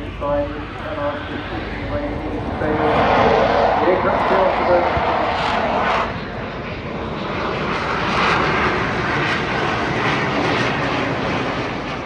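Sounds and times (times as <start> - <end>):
jet engines roaring in afterburner: 0.0 - 12.0.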